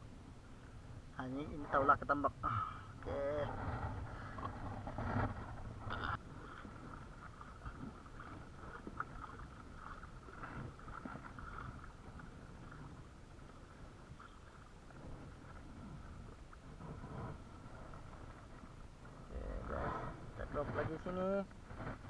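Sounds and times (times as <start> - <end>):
water lapping against kayak hull: 0.0 - 22.0.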